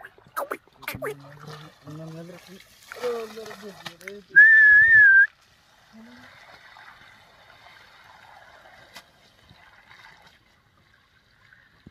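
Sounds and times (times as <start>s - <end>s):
water trickling: 0.0s - 11.9s.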